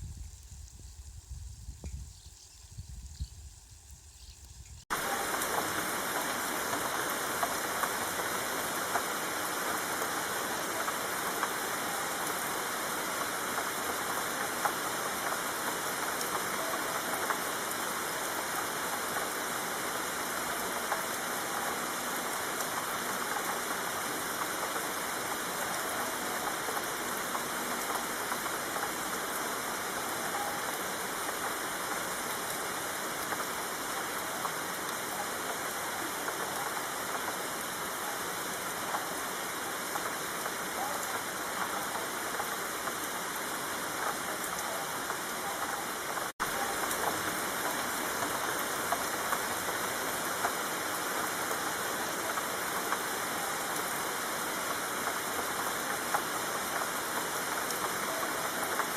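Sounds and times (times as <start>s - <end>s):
heavy rain falling: 2.7s - 58.9s.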